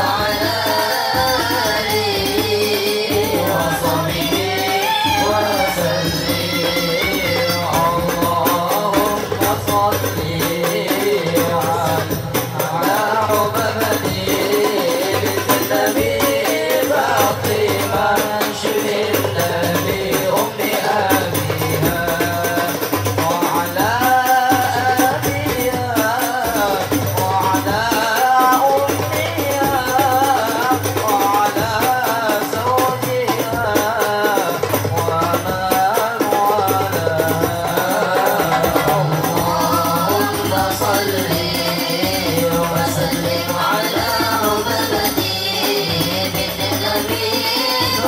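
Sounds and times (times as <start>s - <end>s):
boys singing in unison: 0.0s - 48.0s
frame drums beating: 0.0s - 48.0s.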